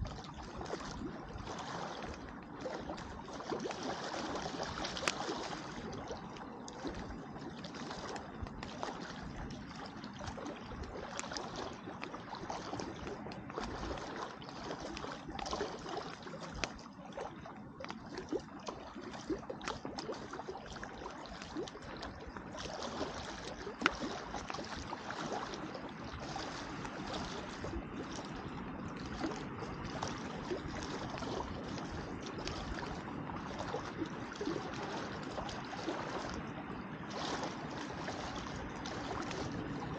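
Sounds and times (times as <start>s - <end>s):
lake water lapping at shore: 0.0s - 39.9s.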